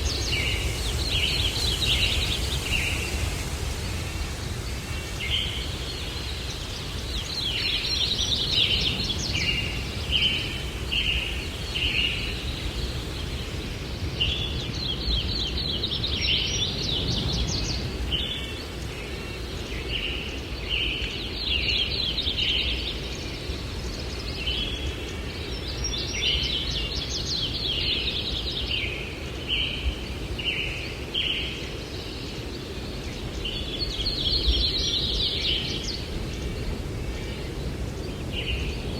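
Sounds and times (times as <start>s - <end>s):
breeze rumble: 0.0s - 38.9s
songbird singing: 0.0s - 38.9s.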